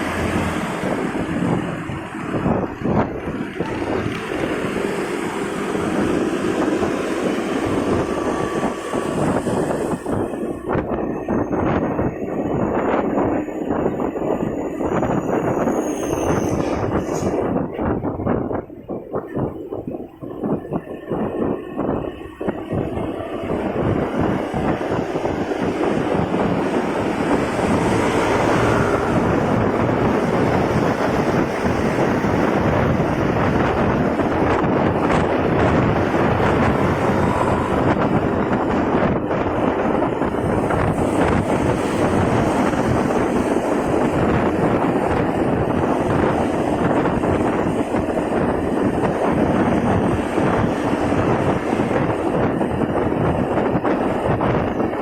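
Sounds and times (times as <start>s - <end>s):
motorcycle engine: 0.0s - 13.9s, 20.5s - 54.5s
road traffic: 0.0s - 55.0s
wind buffeting microphone: 0.0s - 55.0s.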